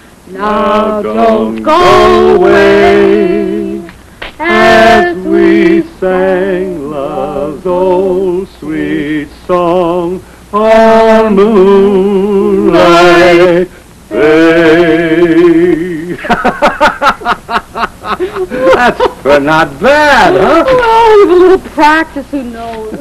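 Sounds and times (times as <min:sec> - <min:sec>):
people singing slow song: 0:00.0 - 0:18.8.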